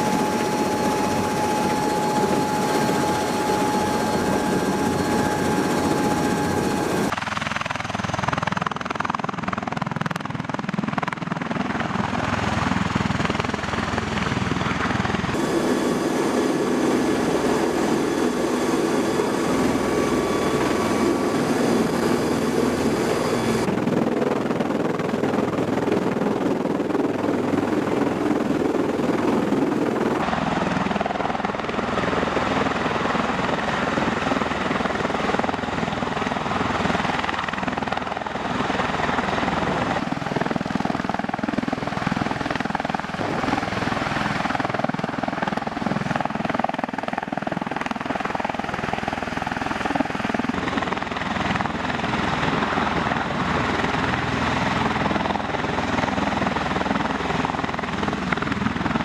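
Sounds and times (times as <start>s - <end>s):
aircraft rotors droning loudly: 0.0s - 59.0s.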